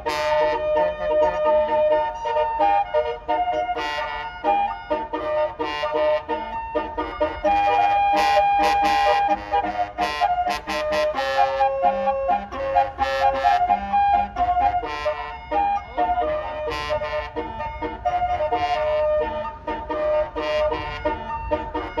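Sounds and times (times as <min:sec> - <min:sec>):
bus horn playing a melody: 0:00.0 - 0:22.0.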